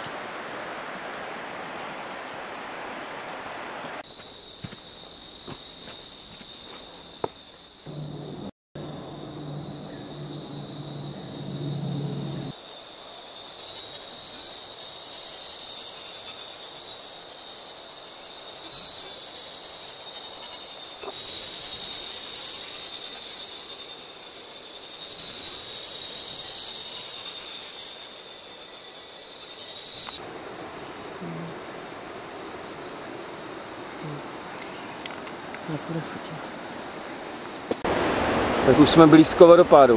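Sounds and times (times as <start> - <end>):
insects droning in chorus: 0.0 - 39.9.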